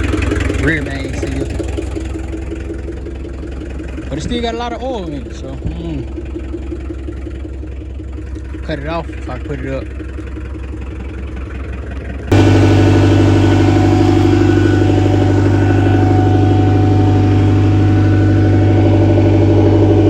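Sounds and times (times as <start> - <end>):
skid steer engine running: 0.0 - 20.0.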